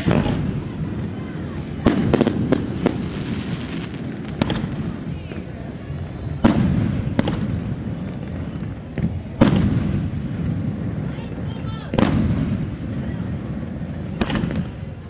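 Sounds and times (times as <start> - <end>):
fireworks bangs: 0.0 - 15.0
low rumble of explosions: 0.0 - 15.0.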